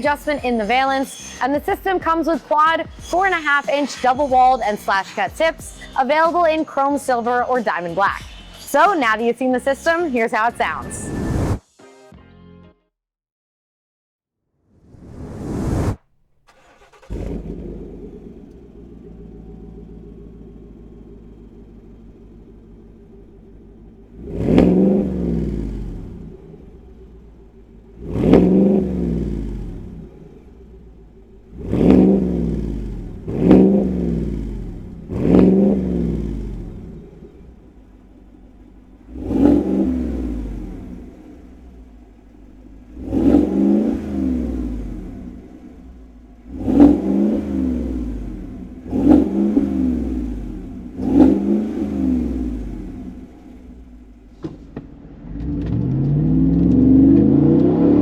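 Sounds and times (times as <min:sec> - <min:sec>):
car engine idling and revving: 0:00.0 - 0:11.6, 0:14.8 - 0:58.0.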